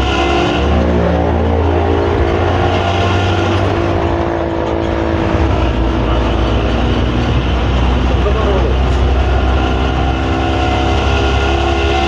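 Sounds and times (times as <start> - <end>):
bus engine growling: 0.0 - 12.0.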